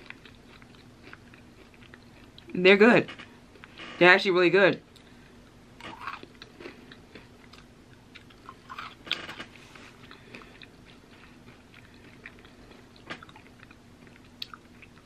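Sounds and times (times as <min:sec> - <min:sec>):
crunchy candy chewing: 0:00.0 - 0:03.8, 0:05.8 - 0:15.0.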